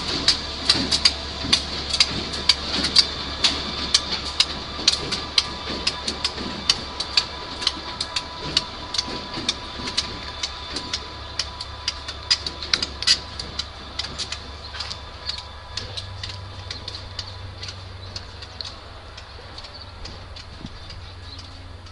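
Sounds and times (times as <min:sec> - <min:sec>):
low locomotive engine rumble: 0:00.0 - 0:21.9
wheels clicking over track joints: 0:00.0 - 0:21.9.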